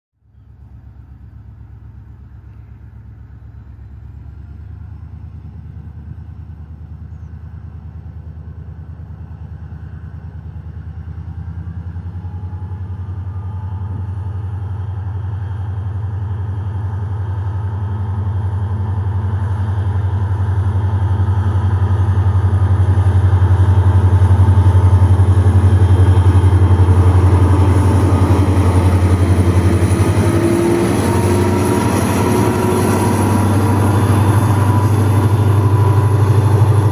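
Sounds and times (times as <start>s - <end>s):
locomotive diesel engine humming: 0.2s - 36.9s.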